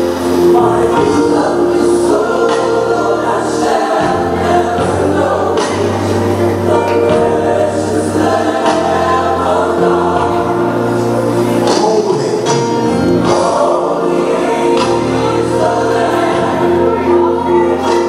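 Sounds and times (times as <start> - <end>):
gospel choir singing with backing: 0.0 - 18.0.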